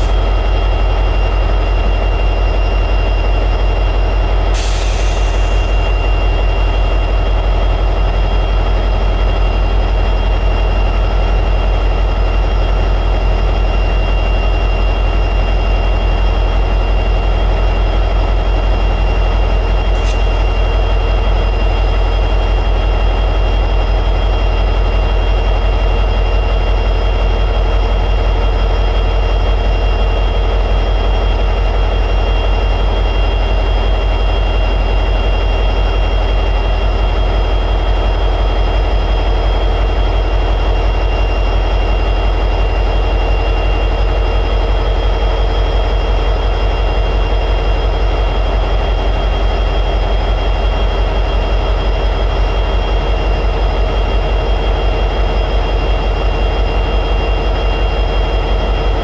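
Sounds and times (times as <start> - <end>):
steady whine: 0.0 - 59.0.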